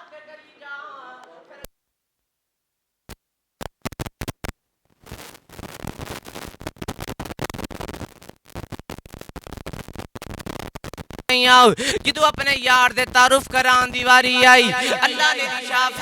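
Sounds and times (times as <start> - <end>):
crackle and scratching noise: 3.0 - 16.0.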